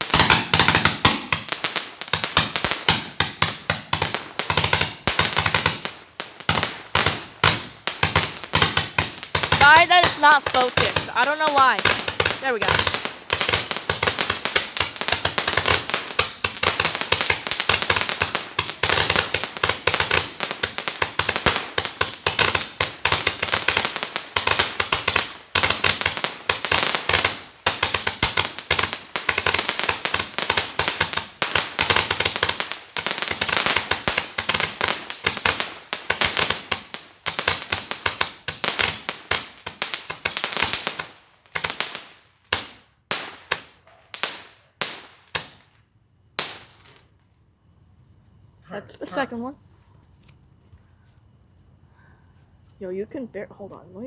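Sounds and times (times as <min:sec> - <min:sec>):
firework crackling pops and bangs: 0:00.0 - 0:47.4.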